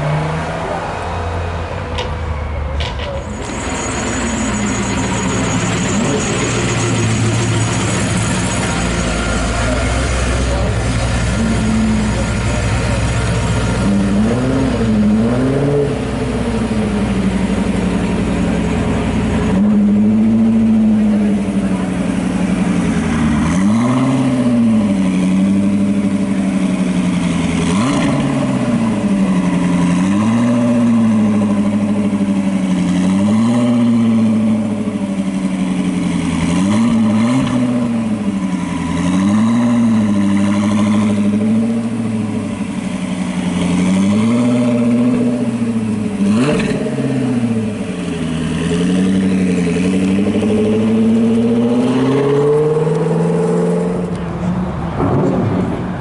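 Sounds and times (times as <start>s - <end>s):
car engine revving: 2.8s - 56.0s.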